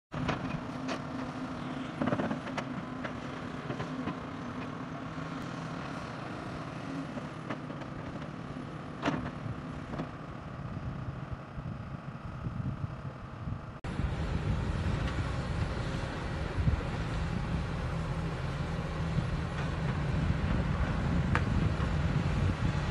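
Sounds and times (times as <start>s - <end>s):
excavator digging: 0.2s - 11.9s, 13.9s - 22.9s
diesel engines running: 0.2s - 22.9s.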